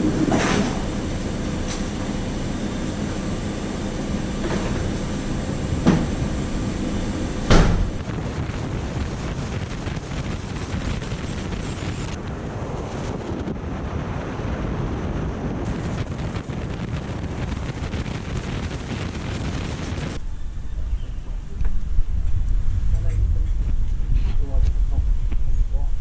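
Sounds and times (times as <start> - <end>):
vehicle engine rumbling: 0.0 - 13.0, 15.6 - 26.0.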